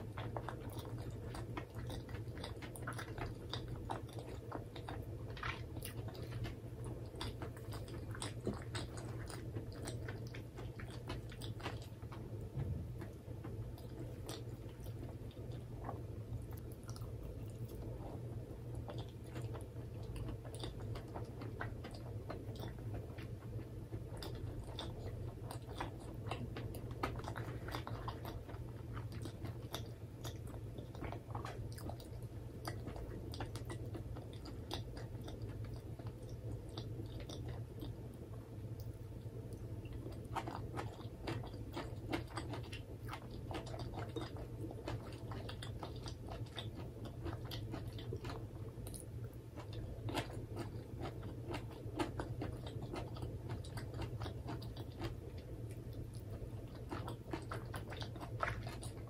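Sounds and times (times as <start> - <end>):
chewing food with mouth closed: 0.0 - 59.0
faint low hum: 0.0 - 59.0.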